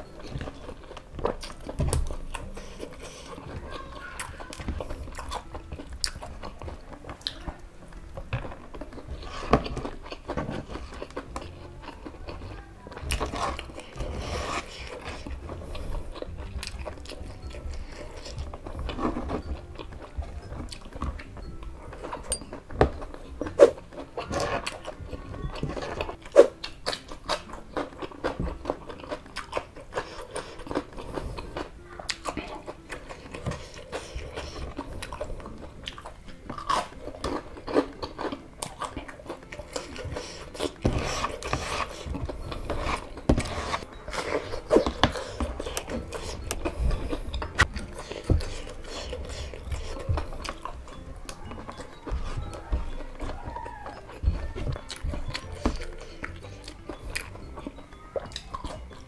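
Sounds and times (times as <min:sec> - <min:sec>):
wet chewing: 0:00.0 - 0:59.0.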